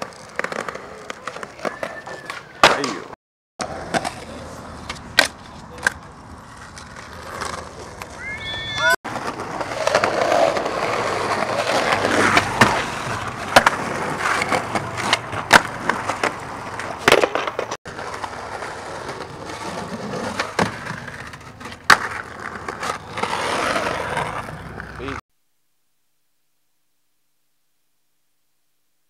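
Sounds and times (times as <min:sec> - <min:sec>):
skateboard deck clacking: 0:00.0 - 0:08.2, 0:09.1 - 0:25.0
skateboard wheels rolling on pavement: 0:00.0 - 0:25.2.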